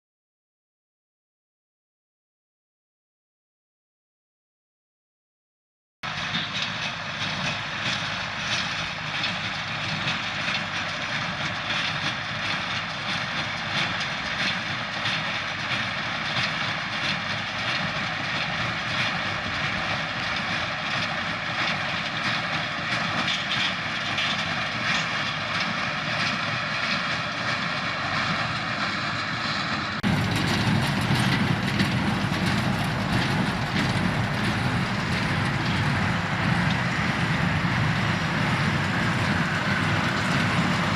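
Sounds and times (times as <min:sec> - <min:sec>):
hay baler working: 0:06.1 - 0:40.9
tractor engine running: 0:06.1 - 0:40.9.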